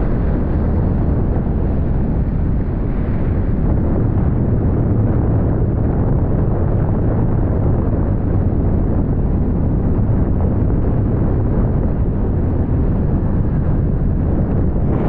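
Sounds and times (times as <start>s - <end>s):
wind and road noise: 0.0s - 15.0s
wind buffeting microphone: 0.0s - 15.0s.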